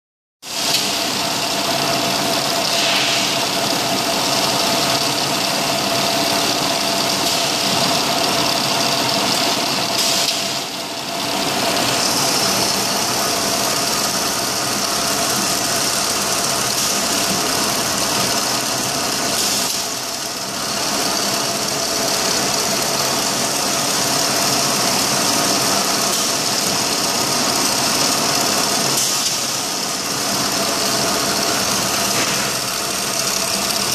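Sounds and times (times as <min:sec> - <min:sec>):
drilling machine whine and hum: 0:00.5 - 0:33.9.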